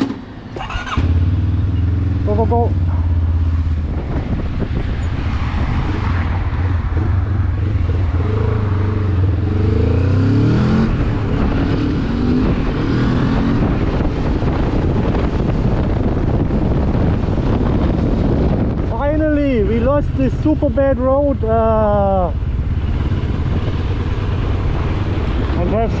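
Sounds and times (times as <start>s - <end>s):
motorcycle engine accelerating: 0.0s - 26.0s
wind noise on microphone: 0.0s - 26.0s.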